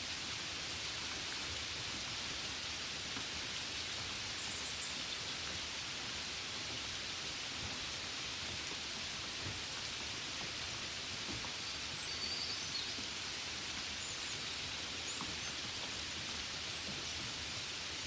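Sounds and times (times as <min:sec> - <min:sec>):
gentle rain hiss: 0:00.0 - 0:18.0.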